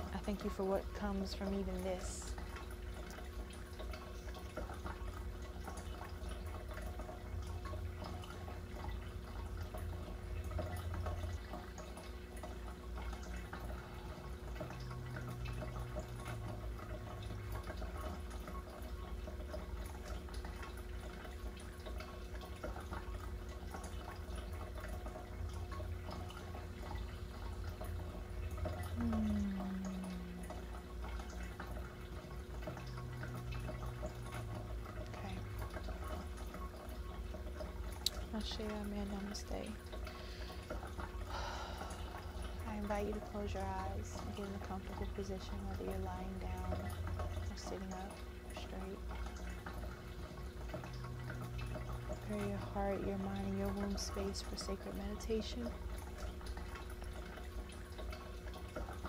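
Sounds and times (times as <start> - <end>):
low hum: 0.0 - 57.3
water trickling and dripping: 0.0 - 59.0.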